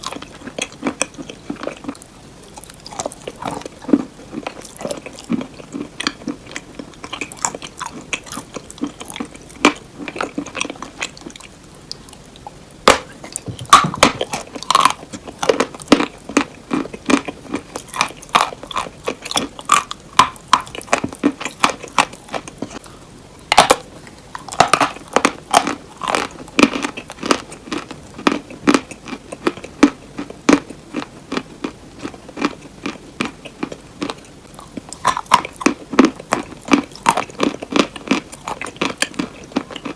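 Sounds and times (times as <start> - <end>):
chewing crunchy cheese: 0.0 - 39.9.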